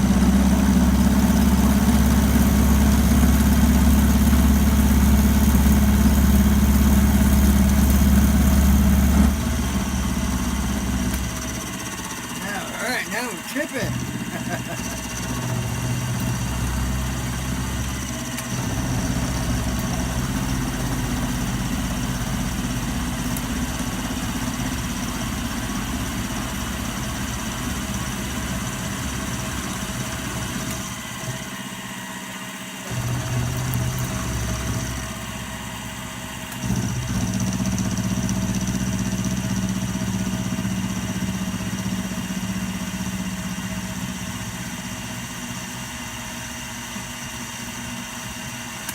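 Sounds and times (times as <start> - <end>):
milling machine running: 0.0 - 48.9.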